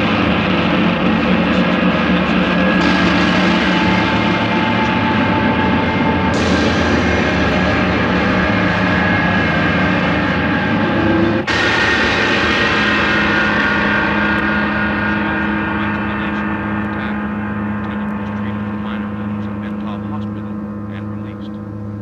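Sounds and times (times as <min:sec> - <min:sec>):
droning film score: 0:00.0 - 0:22.0.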